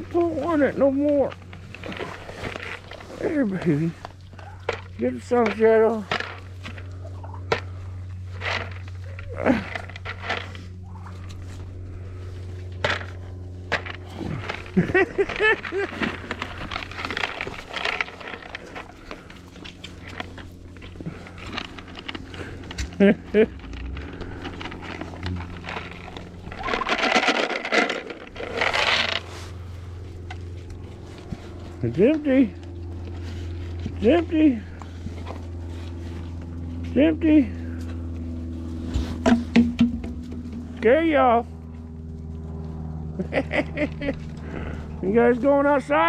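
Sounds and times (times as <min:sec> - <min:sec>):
animals eating from feed dish: 0:00.0 - 0:36.9, 0:37.8 - 0:43.0
farm animal calling: 0:00.0 - 0:39.3
steady low hum: 0:00.0 - 0:46.0.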